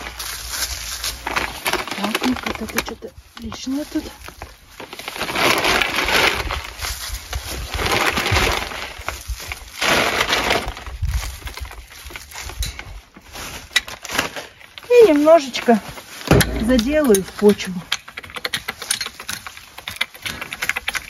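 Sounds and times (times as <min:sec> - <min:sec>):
fertilizer scattering on leaves: 0:00.0 - 0:17.9
plastic bag rustling: 0:00.0 - 0:17.9.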